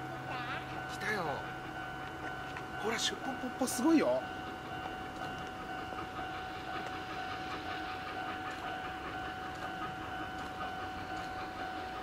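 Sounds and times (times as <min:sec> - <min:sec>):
steady high tone: 0:00.0 - 0:12.0
steam locomotive chuffing: 0:00.0 - 0:12.0.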